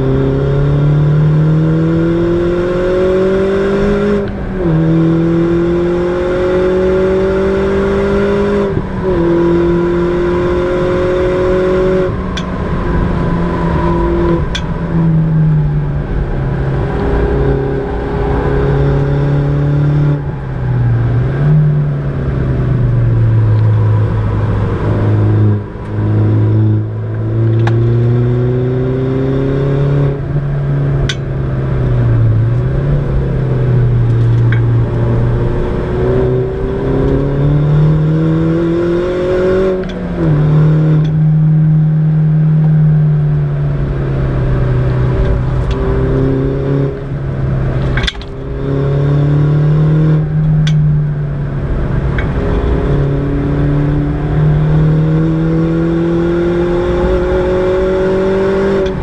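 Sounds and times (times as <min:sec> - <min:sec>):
car engine under load: 0:00.0 - 0:59.0.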